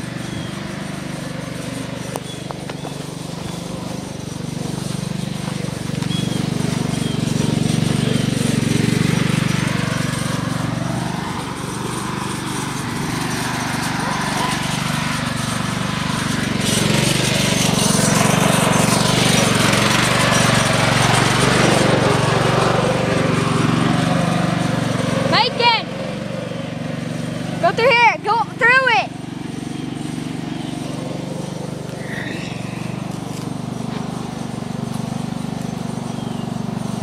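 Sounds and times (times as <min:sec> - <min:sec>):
riding lawn mower engine: 0:00.0 - 0:37.0.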